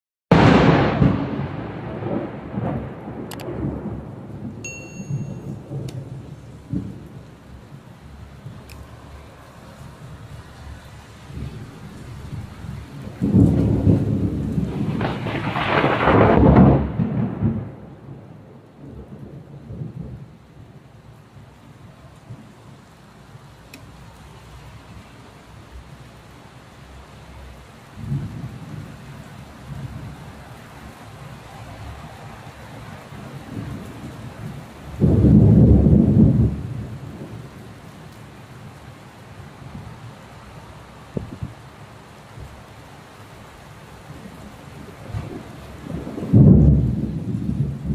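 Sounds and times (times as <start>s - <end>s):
thunder rumbling: 0.3s - 22.9s, 27.9s - 41.7s, 43.9s - 47.9s
steady rain: 0.3s - 47.9s.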